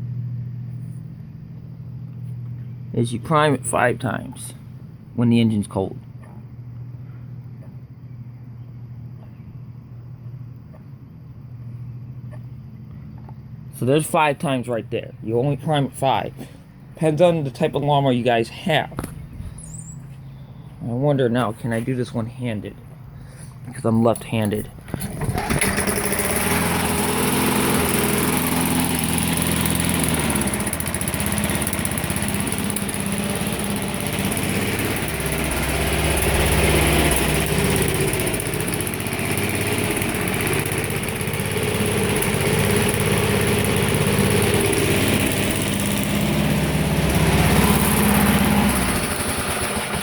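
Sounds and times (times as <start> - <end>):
lawn mower engine running: 0.0 - 9.1, 12.5 - 50.0.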